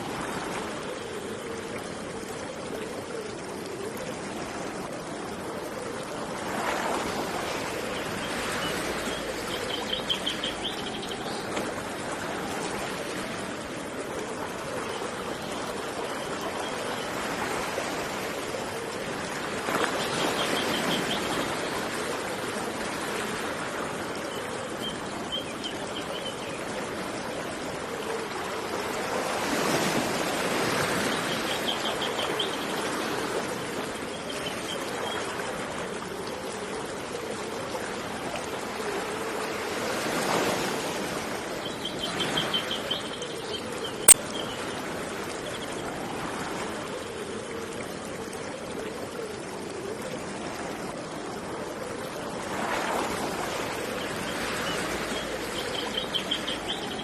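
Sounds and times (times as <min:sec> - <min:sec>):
river water flowing: 0:00.0 - 0:57.0
sea surf: 0:00.0 - 0:57.0.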